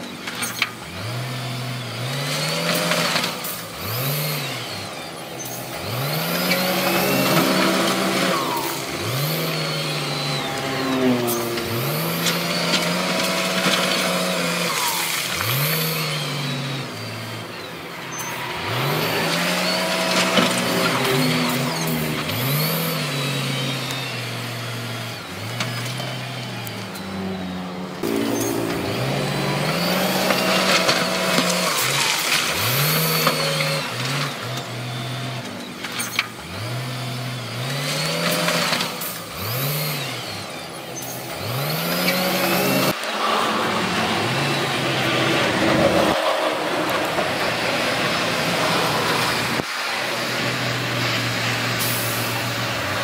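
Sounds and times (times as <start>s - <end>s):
diesel machinery engine revving: 0.0s - 53.0s.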